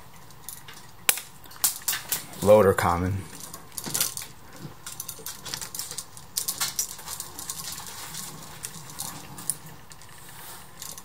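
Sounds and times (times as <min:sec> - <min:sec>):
wires and wire nuts clicking: 0:00.2 - 0:11.0.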